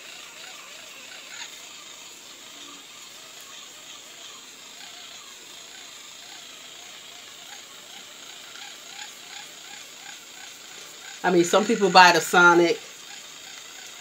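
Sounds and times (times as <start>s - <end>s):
facial brush motor whirring: 0.0s - 14.0s.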